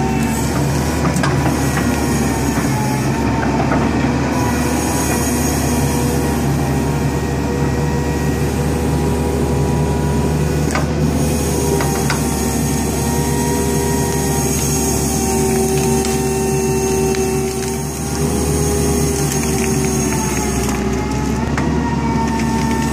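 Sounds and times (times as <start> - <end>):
excavator running under load: 0.0 - 22.9.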